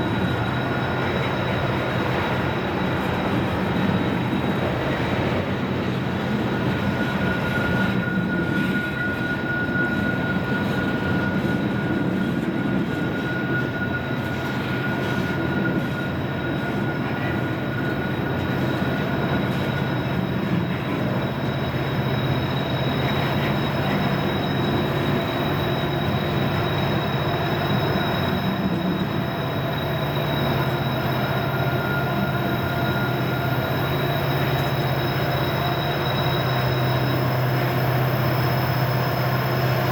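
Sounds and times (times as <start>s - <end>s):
train cars rumbling: 0.0s - 39.9s
wheel flanges squealing on rail: 0.0s - 39.9s.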